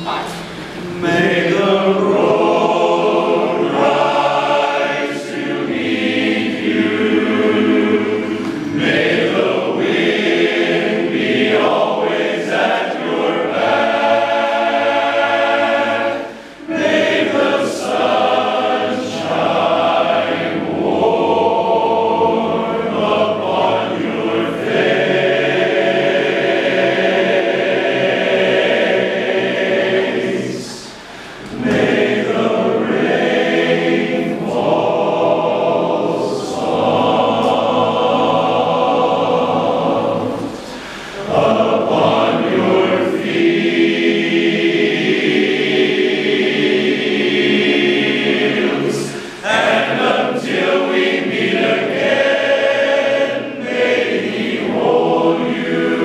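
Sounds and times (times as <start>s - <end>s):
men's chorus singing a cappella: 0.4s - 56.0s.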